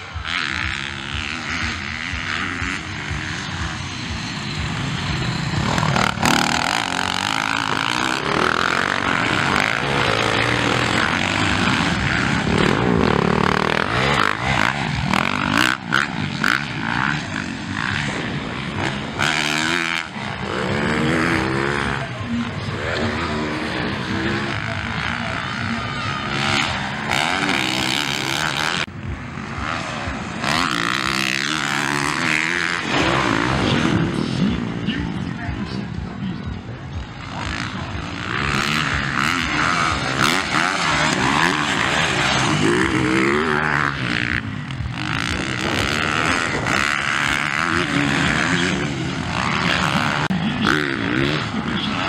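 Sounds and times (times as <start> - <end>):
dirt bike engines revving: 0.0 - 52.0.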